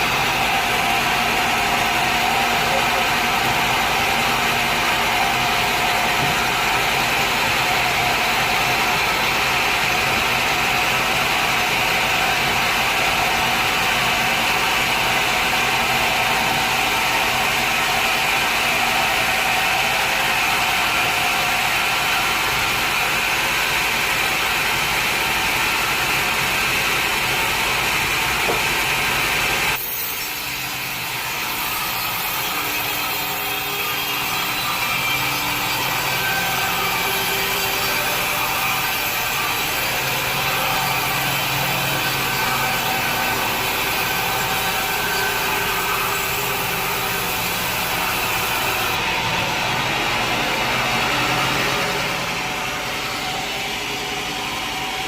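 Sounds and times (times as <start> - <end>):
machine running: 0.0 - 55.0
sawmill blade cutting log: 0.0 - 55.0.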